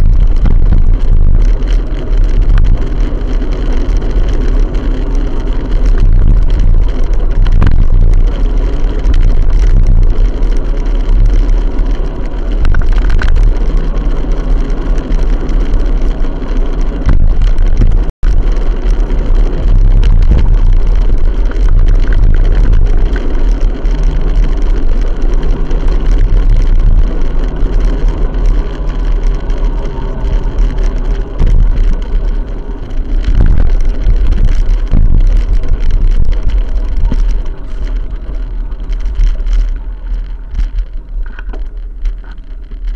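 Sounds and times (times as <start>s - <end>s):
heavy low rumble: 0.0s - 42.9s
vehicle engine drone: 0.0s - 42.9s.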